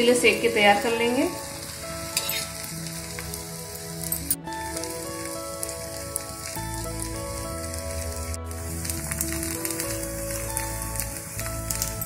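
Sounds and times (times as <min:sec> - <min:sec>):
background music with held notes: 0:00.0 - 0:12.0
batter sizzling in oil: 0:00.0 - 0:12.0.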